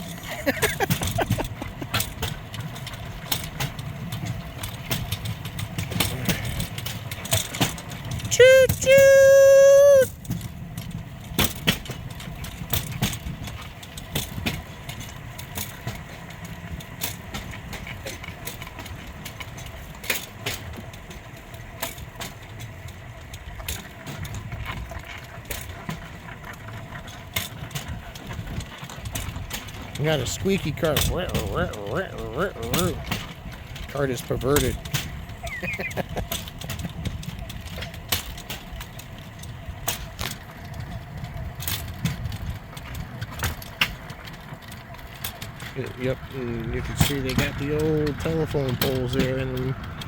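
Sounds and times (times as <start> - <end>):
steel wheels rumbling on track: 0.0 - 50.0
wheels clicking and clacking: 0.0 - 50.0.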